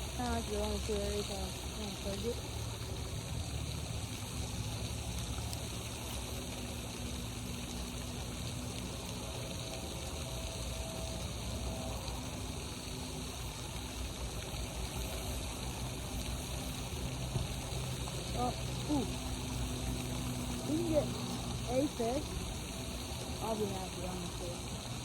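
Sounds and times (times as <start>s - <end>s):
faint hum: 0.0s - 25.0s
fountain water splashing: 0.0s - 25.0s.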